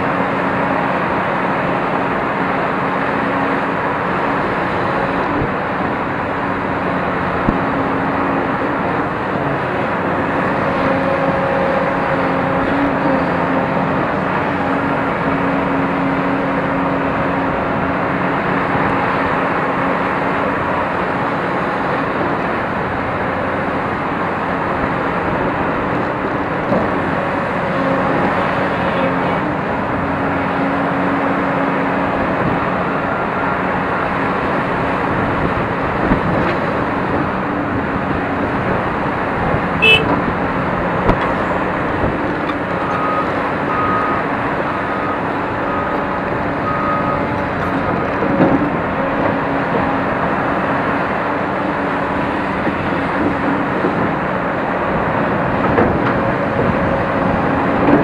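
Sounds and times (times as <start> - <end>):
excavator engine and hydraulics: 0.0 - 58.0.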